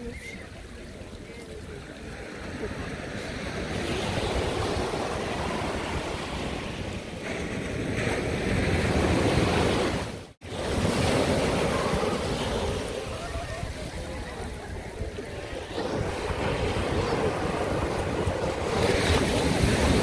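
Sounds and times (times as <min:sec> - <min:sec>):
ocean waves washing on sand: 0:00.0 - 0:20.0
wind on microphone: 0:00.0 - 0:20.0.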